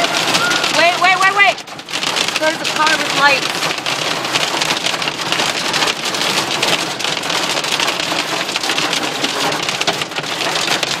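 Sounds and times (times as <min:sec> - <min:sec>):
hail pelting a car roof: 0:00.0 - 0:11.0.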